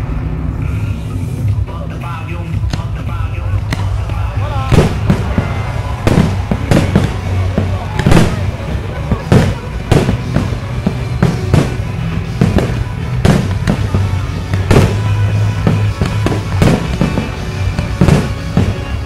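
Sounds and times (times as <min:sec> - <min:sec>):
music playing: 0:00.0 - 0:19.0
firework shells bursting: 0:03.6 - 0:19.0.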